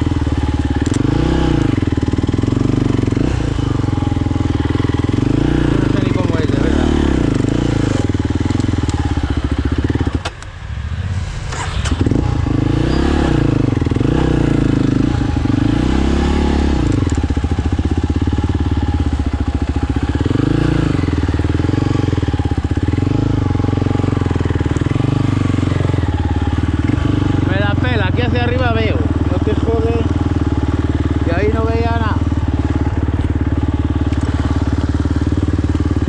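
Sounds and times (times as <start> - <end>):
quad engine revving: 0.0 - 10.5, 11.3 - 36.0.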